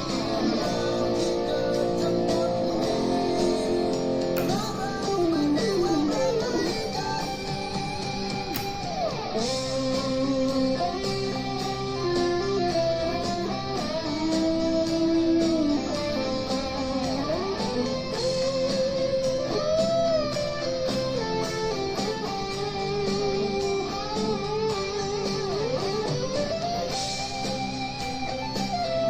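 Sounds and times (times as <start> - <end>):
electric guitar lead: 0.0 - 29.0.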